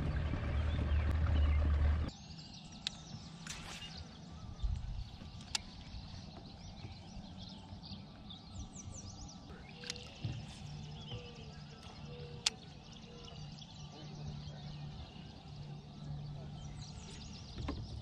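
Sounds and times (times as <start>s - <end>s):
low motor hum: 0.0s - 18.0s
small birds chirping: 0.1s - 18.0s.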